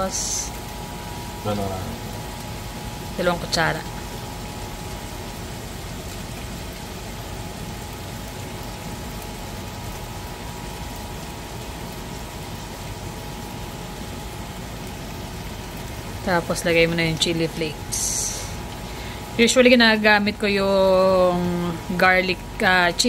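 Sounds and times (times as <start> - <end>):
faint steady hum: 0.0 - 23.0
shrimp sizzling in frying pan: 0.0 - 23.0.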